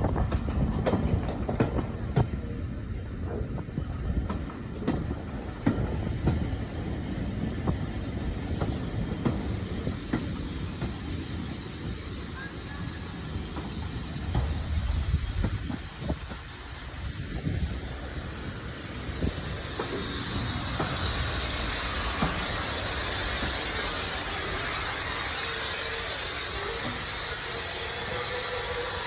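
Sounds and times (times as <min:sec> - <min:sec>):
train rumbling along track: 0:00.0 - 0:29.0
wheels clicking over rail joints: 0:00.0 - 0:29.0.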